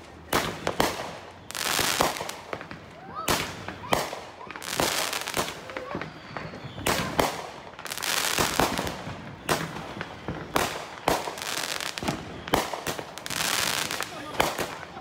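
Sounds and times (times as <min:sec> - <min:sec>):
firework stars crackling: 0:00.0 - 0:15.0.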